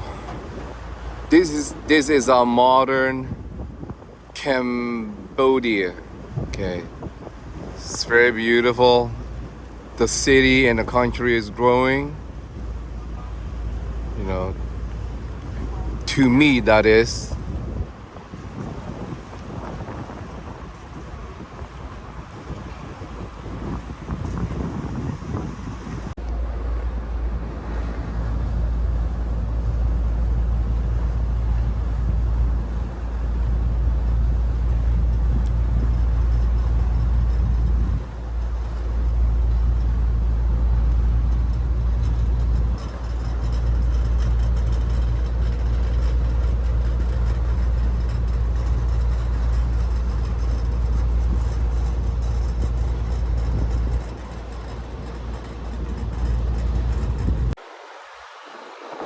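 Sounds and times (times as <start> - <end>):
boat engine rumble: 0.0 - 59.0
wind buffeting microphone: 0.0 - 59.0.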